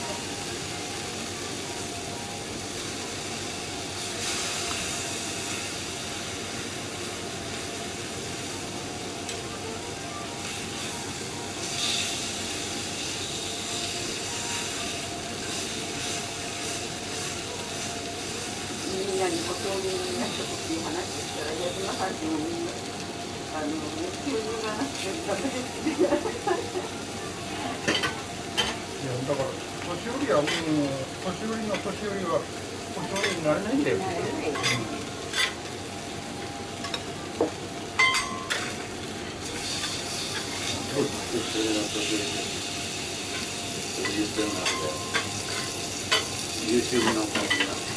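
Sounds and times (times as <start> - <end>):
meat sizzling on a griddle: 0.0 - 47.9.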